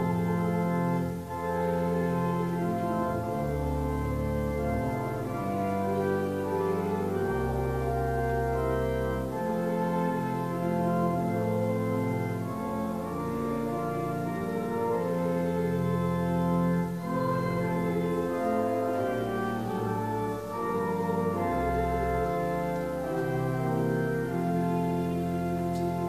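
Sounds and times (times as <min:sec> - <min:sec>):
organ playing slow chords: 0:00.0 - 0:26.0.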